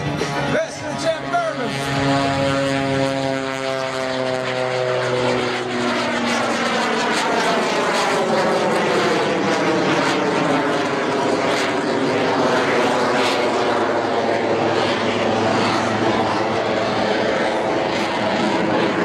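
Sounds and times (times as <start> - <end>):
plane engine flying overhead: 0.0 - 19.0.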